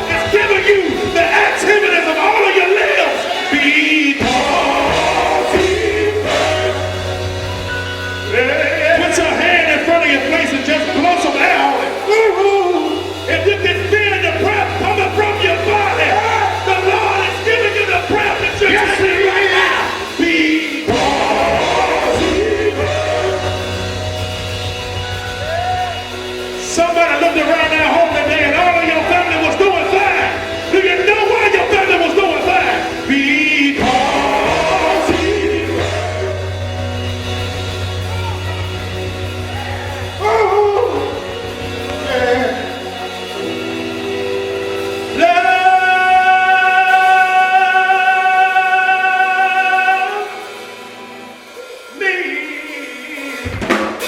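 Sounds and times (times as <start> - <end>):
held chord: 0.0 - 52.0
gospel band music: 0.0 - 54.0
voices singing: 0.0 - 54.0.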